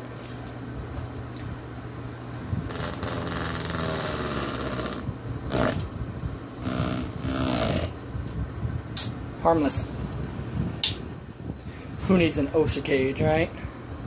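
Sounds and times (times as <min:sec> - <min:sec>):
fan motor hum: 0:00.0 - 0:14.0.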